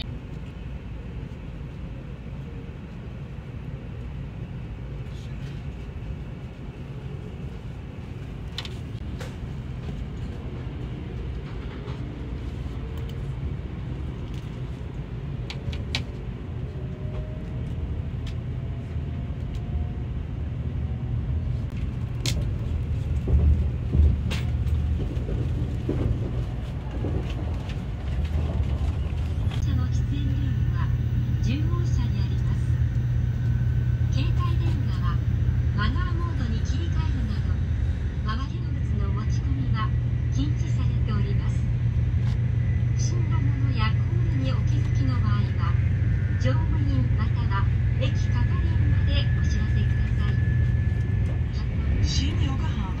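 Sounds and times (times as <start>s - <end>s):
train running low rumble: 0.0s - 53.0s.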